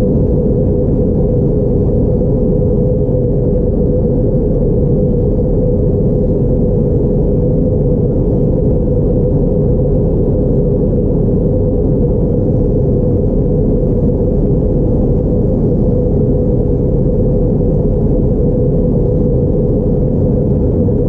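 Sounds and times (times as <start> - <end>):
aircraft cabin engine drone: 0.0 - 21.0
steady hum: 0.0 - 21.0.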